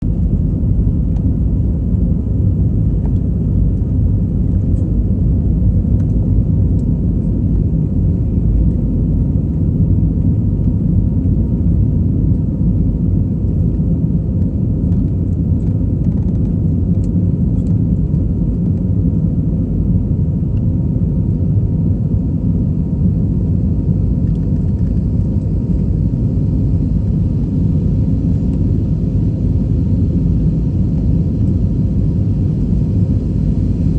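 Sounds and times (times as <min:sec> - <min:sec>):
airliner engines rumbling: 0:00.0 - 0:33.9.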